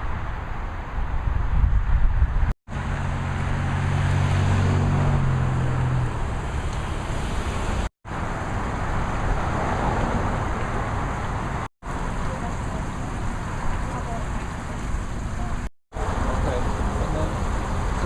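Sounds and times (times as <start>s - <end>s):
road traffic: 0.0s - 18.0s
vehicle engine hum: 0.0s - 18.0s.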